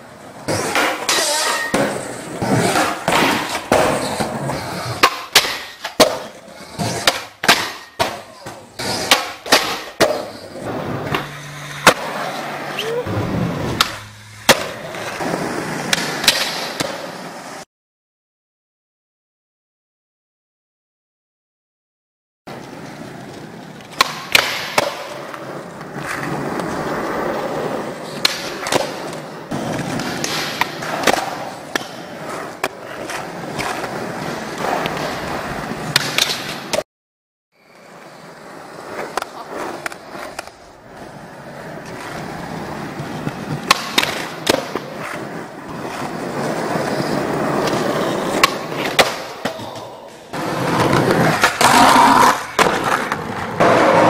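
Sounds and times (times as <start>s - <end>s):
skateboard wheels rolling: 0.0s - 17.6s, 22.5s - 36.8s, 37.6s - 54.0s
skateboard clacking on ground: 0.4s - 17.6s, 22.5s - 36.8s, 37.7s - 54.0s.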